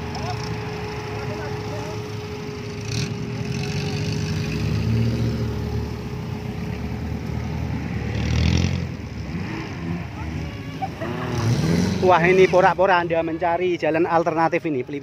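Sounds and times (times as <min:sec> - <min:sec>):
off-road vehicle engine revving: 0:00.0 - 0:13.4.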